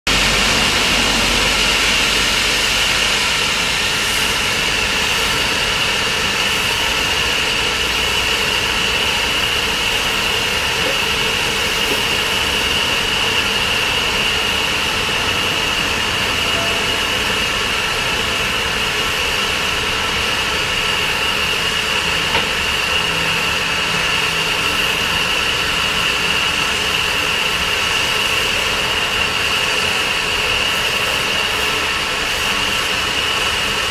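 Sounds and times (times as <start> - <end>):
steam hissing from locomotive: 0.1 - 33.9.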